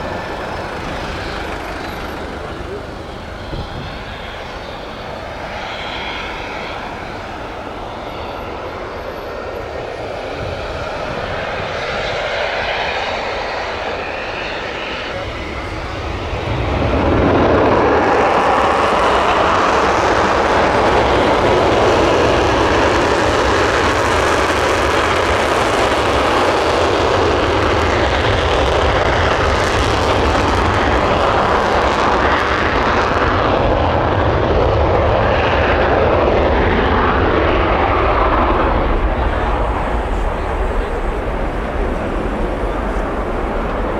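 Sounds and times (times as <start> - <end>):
loud jet engine noise: 0.0 - 43.9.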